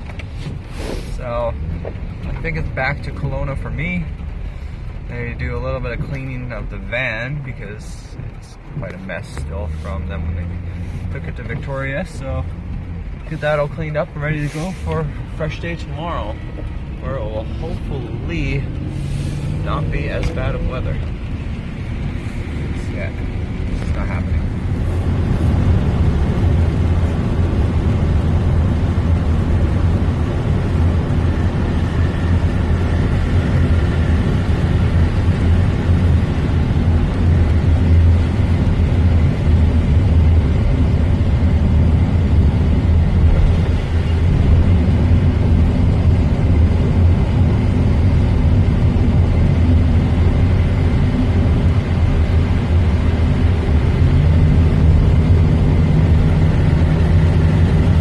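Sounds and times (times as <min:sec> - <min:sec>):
van engine and road rumble: 0:00.0 - 0:58.0.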